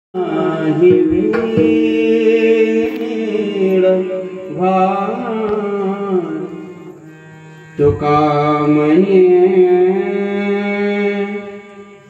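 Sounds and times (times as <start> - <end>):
man singing long notes: 0.2 - 12.0
steady drone: 0.2 - 12.0.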